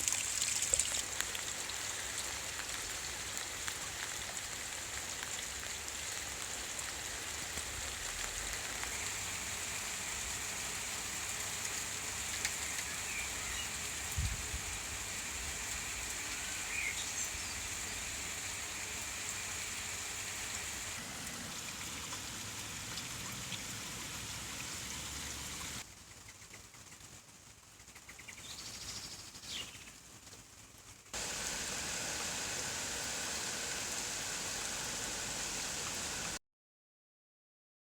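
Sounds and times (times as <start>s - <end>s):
rain falling: 0.0s - 25.8s, 29.8s - 36.4s.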